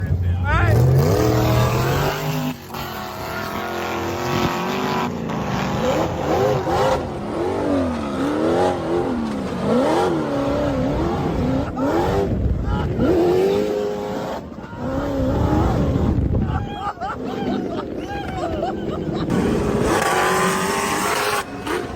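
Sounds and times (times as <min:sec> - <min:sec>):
engine revving hard: 0:00.6 - 0:16.3, 0:19.3 - 0:21.9.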